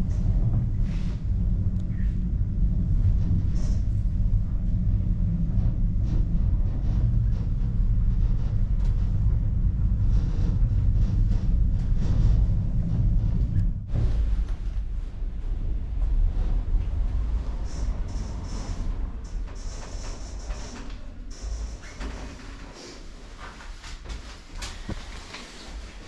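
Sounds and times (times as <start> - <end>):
funicular cabin rumbling on track: 0.0 - 26.0.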